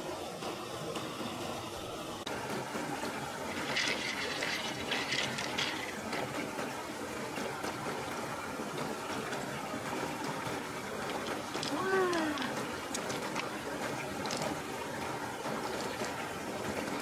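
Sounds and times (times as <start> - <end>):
river water flowing: 0.0 - 17.0
water splashes: 0.0 - 17.0.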